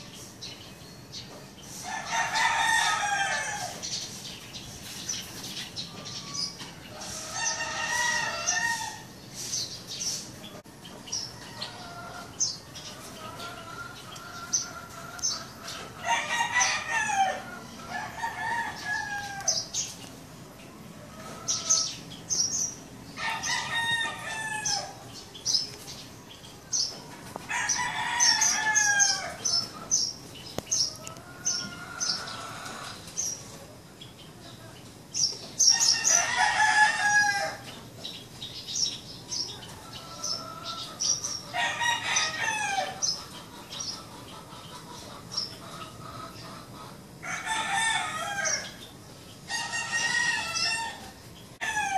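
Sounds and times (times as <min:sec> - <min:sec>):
roosters crowing: 0:00.0 - 0:04.4, 0:05.2 - 0:33.8, 0:35.1 - 0:51.9
small birds chirping: 0:00.0 - 0:51.9.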